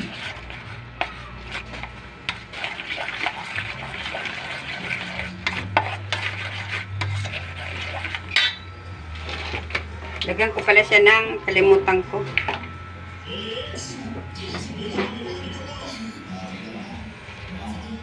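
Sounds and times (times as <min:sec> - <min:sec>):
spoon stirring batter in metal bowl: 0:00.0 - 0:16.0.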